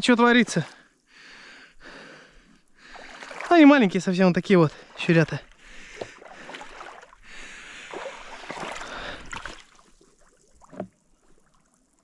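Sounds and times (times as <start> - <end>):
water sloshing and splashing: 0.0 - 1.0, 1.8 - 12.0.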